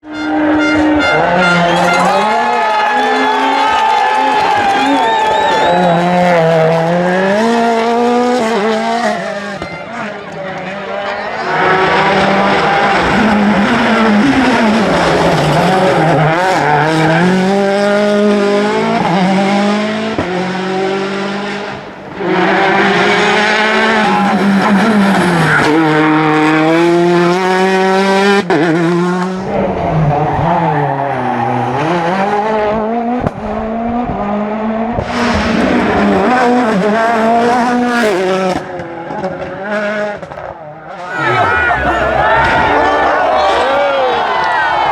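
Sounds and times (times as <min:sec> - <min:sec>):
rally car engines revving hard: 0:00.0 - 0:44.9.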